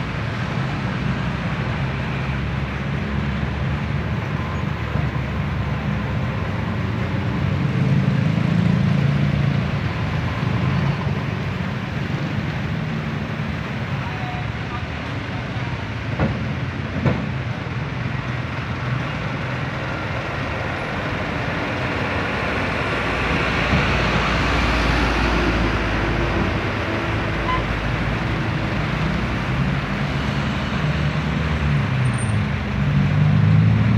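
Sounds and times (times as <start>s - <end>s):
traffic crossing rails: 0.0s - 33.9s
truck engine rumble: 0.0s - 33.9s.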